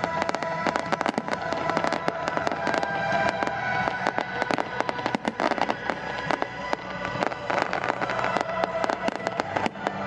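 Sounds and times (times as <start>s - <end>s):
fireworks cracking and popping: 0.0s - 10.0s
music playing: 0.0s - 10.0s.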